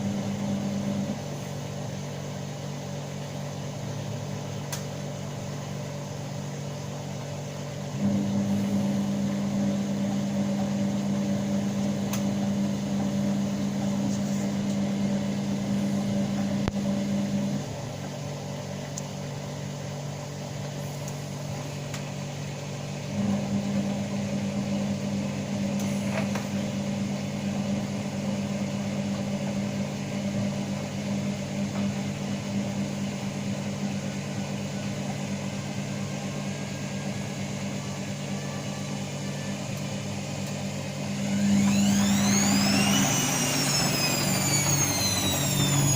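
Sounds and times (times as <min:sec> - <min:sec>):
washing machine spinning: 0:00.0 - 0:45.9.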